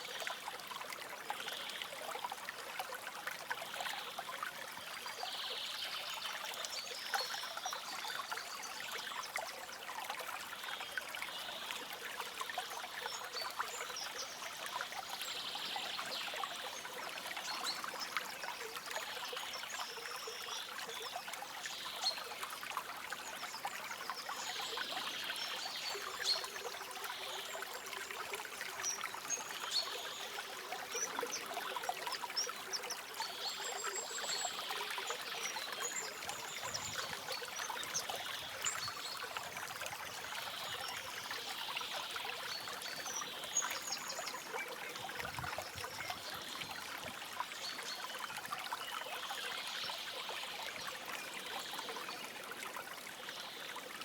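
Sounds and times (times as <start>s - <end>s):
stream water babbling: 0.0s - 54.0s.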